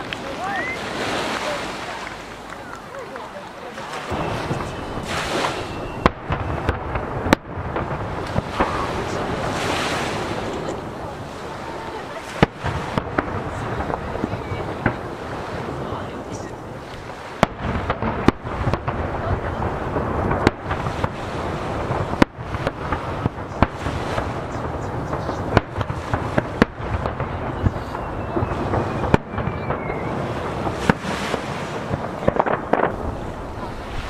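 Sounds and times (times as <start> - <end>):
fireworks booming: 0.0 - 34.0
waves: 0.0 - 34.0
wind: 0.0 - 34.0.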